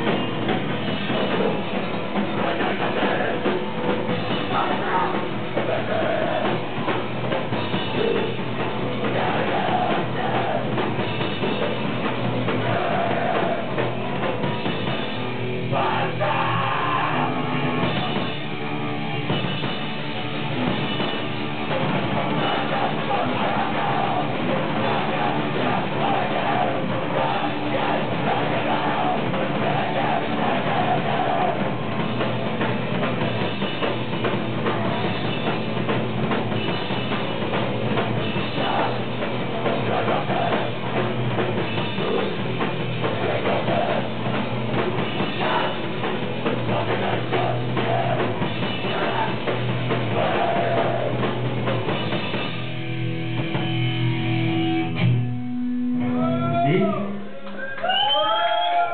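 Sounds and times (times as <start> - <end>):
vocals: 0.0 - 18.4, 21.8 - 36.0, 37.0 - 52.4, 56.1 - 57.8
rock band playing live: 0.0 - 58.9.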